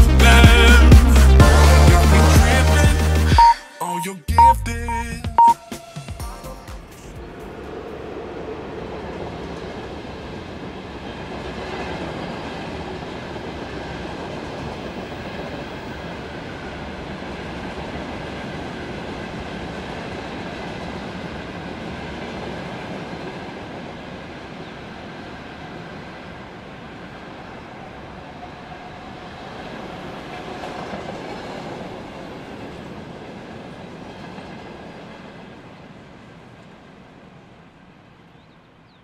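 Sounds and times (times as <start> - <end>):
train rolling on track: 6.7 - 38.9.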